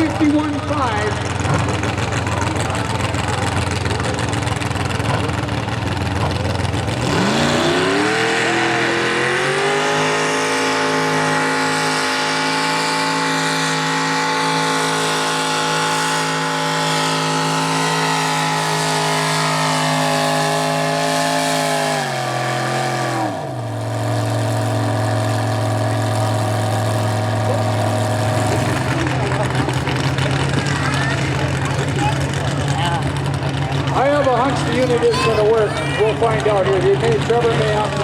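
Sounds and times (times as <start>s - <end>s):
engine revving and idling: 0.0s - 38.0s.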